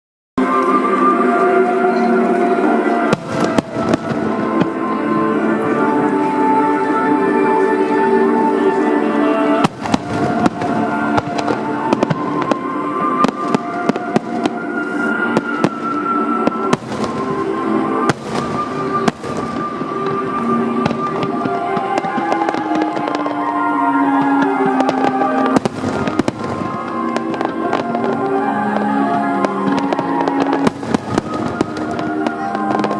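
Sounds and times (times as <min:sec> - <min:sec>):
music: 0:00.4 - 0:32.9
fireworks cracking: 0:02.6 - 0:06.4, 0:09.6 - 0:32.9.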